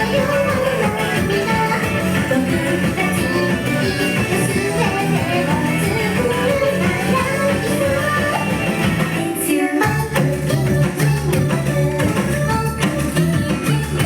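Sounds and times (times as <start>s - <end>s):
upbeat rock backing track: 0.0s - 14.0s
woman singing: 0.0s - 14.0s.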